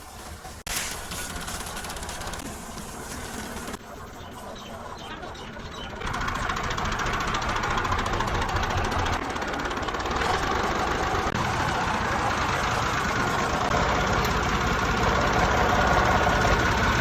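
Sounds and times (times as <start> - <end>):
tractor engine knocking: 0.0 - 17.0.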